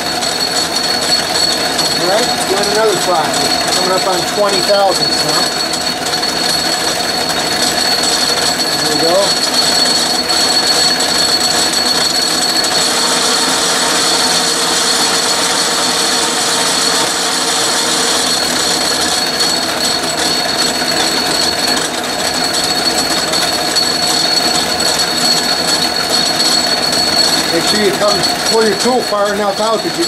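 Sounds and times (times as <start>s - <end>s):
metal lathe cutting a thread: 0.0s - 30.0s.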